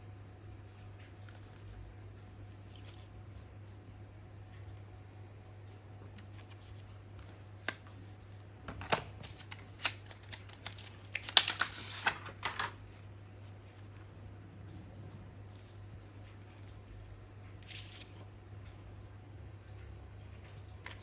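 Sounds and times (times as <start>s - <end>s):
steady low hum: 0.0s - 9.9s, 12.8s - 21.0s.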